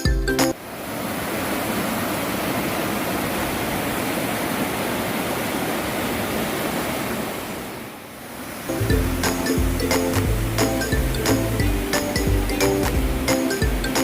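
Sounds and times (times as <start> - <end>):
stream water rushing: 0.5 - 14.0.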